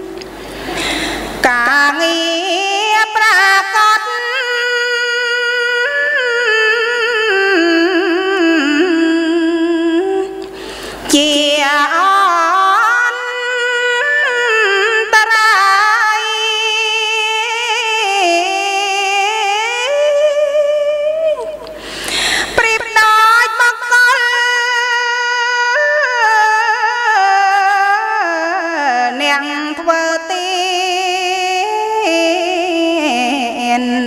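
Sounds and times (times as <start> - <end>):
woman chanting: 1.4 - 10.4, 11.1 - 21.7, 22.5 - 34.0.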